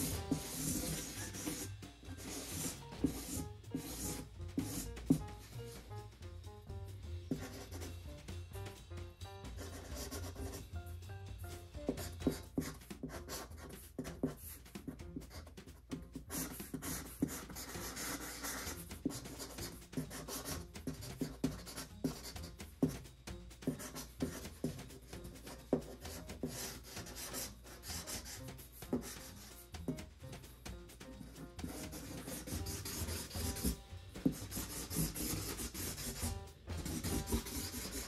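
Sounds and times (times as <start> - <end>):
marker scratching on cardboard: 0.0 - 6.1, 7.3 - 8.7, 9.3 - 38.0.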